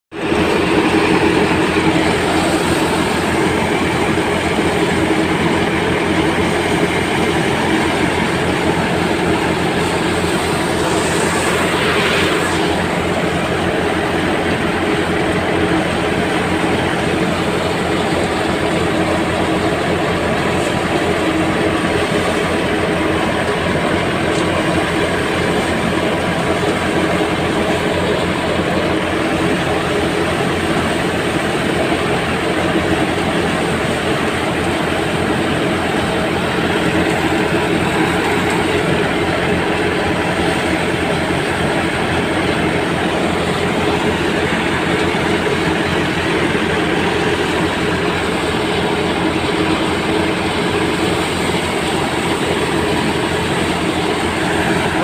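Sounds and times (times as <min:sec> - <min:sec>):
thresher drone and clatter: 0:00.1 - 0:55.0.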